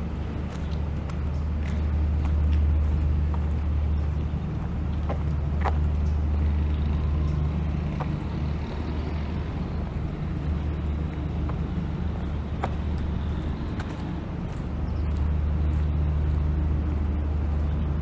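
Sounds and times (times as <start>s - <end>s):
car driving slowly: 0.0s - 18.0s.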